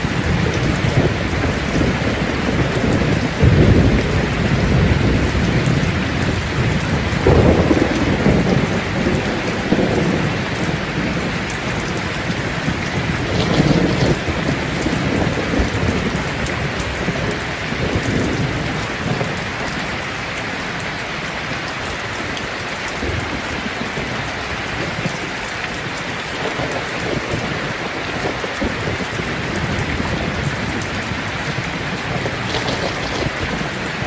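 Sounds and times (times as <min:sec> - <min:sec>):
low rumbles of thunder: 0:00.0 - 0:20.0, 0:23.0 - 0:34.0
steady rain falling: 0:00.0 - 0:34.0.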